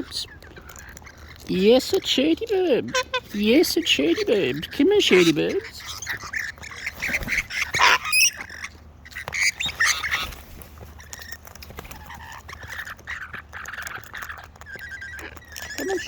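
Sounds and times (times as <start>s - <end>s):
birds squawking: 0.0s - 16.0s.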